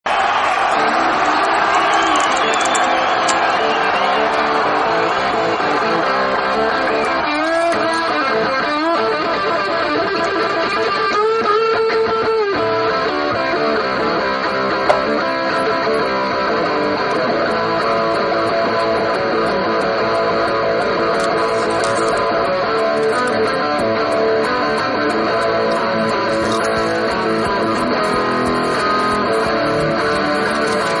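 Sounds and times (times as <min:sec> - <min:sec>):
electric guitar music: 0:00.2 - 0:31.0.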